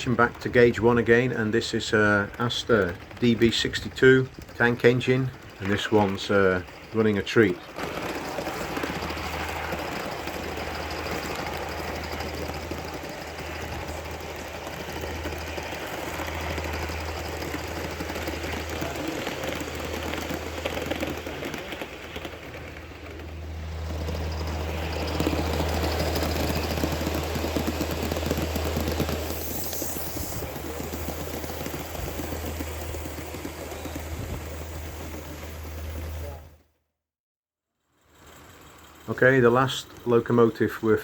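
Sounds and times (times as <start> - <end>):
steam engine exhaust: 0.0 - 36.6, 38.0 - 41.0
train wheel noise: 0.0 - 36.6, 37.9 - 41.0.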